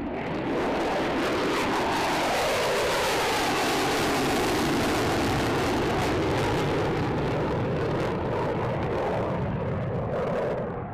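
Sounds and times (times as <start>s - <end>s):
jet engine roar: 0.0s - 10.9s.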